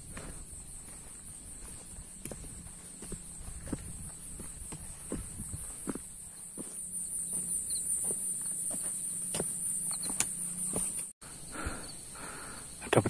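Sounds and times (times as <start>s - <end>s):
footsteps crunching on stones: 0.0s - 11.2s
insects chirring: 0.0s - 13.0s.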